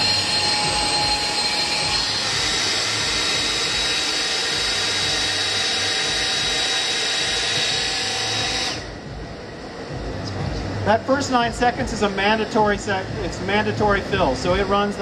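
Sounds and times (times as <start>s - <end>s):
electric fan whining: 0.0s - 15.0s.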